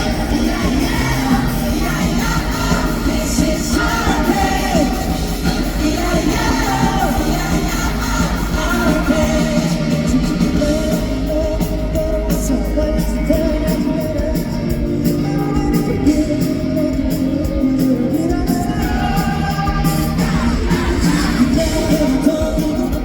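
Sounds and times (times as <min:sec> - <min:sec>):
bass guitar: 0:00.0 - 0:23.0
drums with steady beat: 0:00.0 - 0:23.0
electric guitars: 0:00.0 - 0:23.0
person singing: 0:00.0 - 0:23.0.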